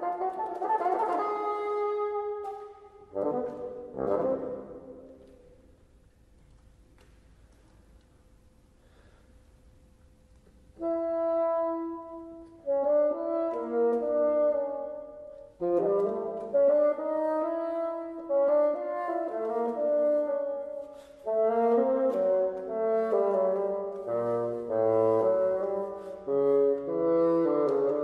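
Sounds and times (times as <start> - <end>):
solo bassoon playing held notes: 0.0 - 5.4, 10.8 - 28.0.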